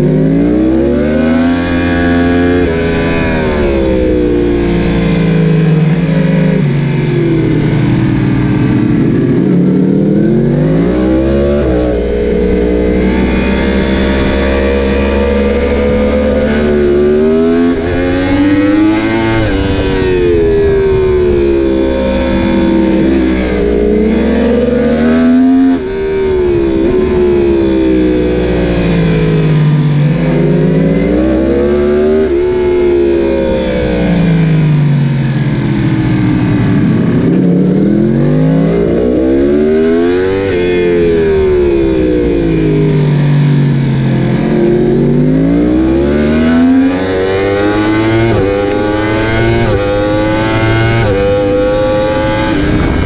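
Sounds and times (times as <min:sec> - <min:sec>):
motorcycle engine revving: 0:00.0 - 0:53.0
wind rush: 0:01.2 - 0:53.0.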